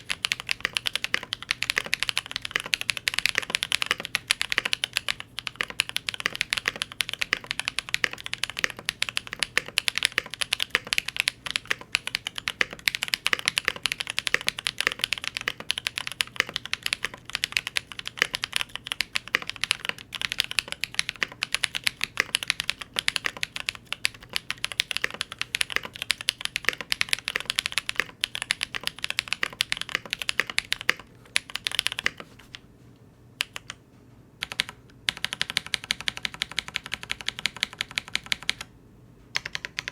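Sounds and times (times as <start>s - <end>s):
mechanical keyboard typing: 0.0s - 32.6s, 33.4s - 33.8s, 34.4s - 38.7s, 39.4s - 39.9s.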